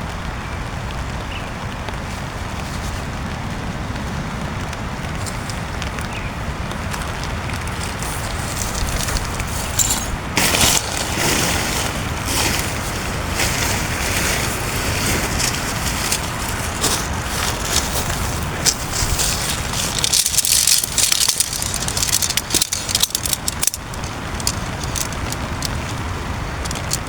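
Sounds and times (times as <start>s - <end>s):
hissing rain: 0.0s - 27.0s
wind buffeting: 0.0s - 27.0s.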